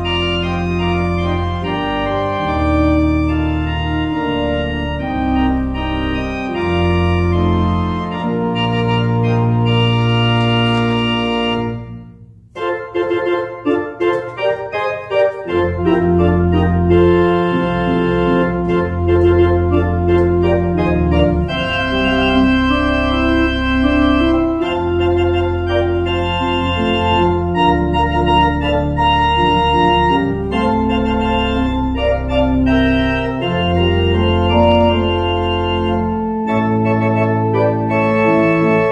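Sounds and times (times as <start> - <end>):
organ music: 0.0 - 38.9.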